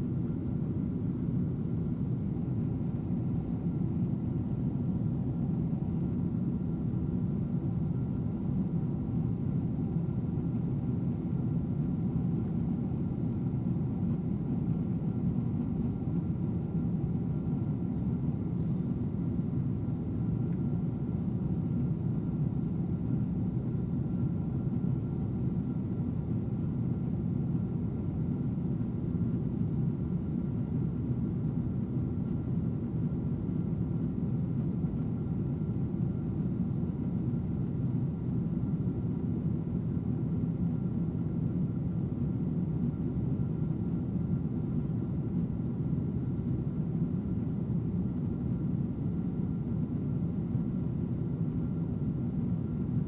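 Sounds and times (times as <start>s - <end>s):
aircraft cabin rumble: 0.0s - 53.0s
faint steady hum: 0.0s - 53.0s.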